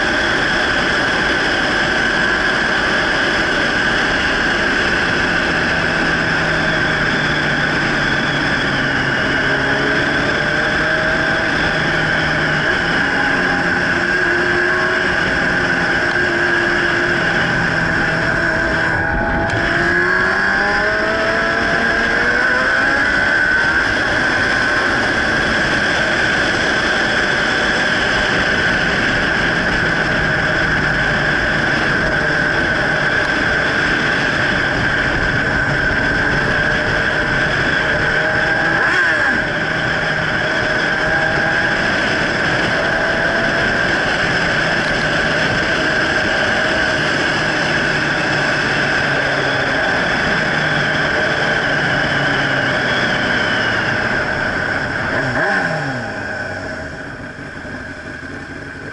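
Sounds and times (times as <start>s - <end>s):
motorcycle engine running: 0.0s - 58.9s
wind noise on microphone: 0.0s - 58.9s.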